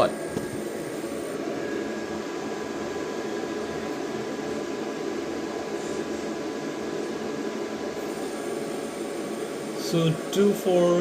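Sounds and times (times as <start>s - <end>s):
cooling fans whirring: 0.0s - 11.0s
faint high whine: 0.0s - 11.0s.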